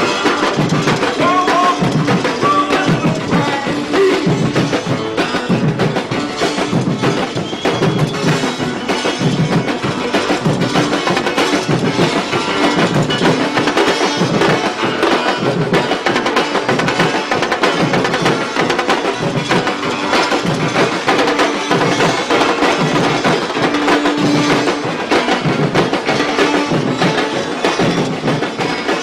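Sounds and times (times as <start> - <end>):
percussion ensemble drumming: 0.0 - 29.0.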